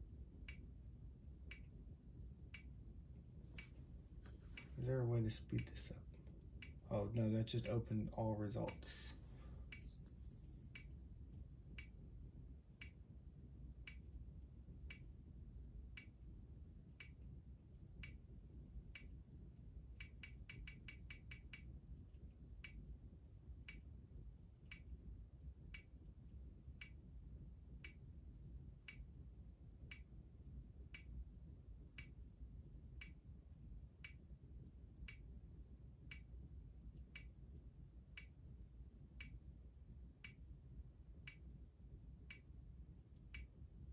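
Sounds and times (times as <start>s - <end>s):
faint room noise: 0.0s - 43.9s.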